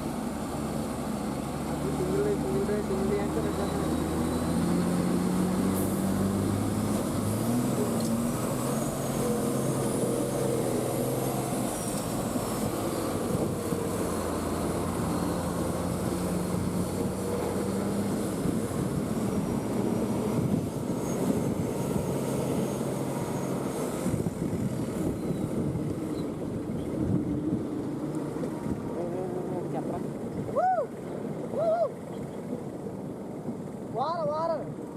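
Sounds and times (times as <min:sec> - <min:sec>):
lorry diesel engine droning: 0:00.0 - 0:33.9.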